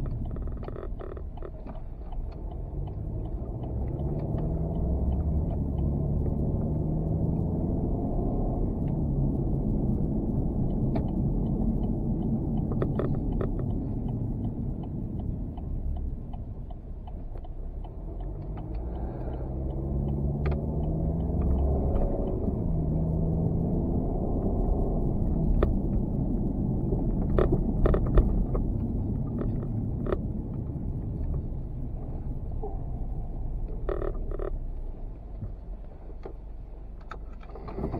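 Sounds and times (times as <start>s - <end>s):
vehicle engine rumble: 0.0s - 37.9s.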